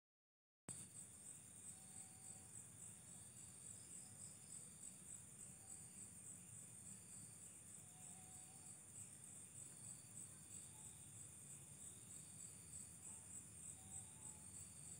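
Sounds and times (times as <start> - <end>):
faint high-pitched pulsing chirring: 0.7 - 14.9.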